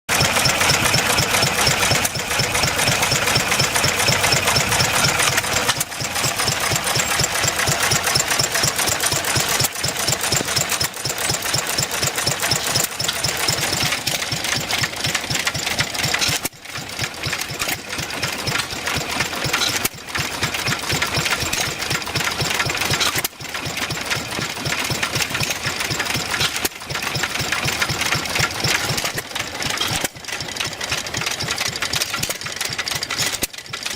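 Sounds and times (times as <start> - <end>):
engine hissing: 0.1 - 33.2
stationary engines popping: 0.1 - 33.9.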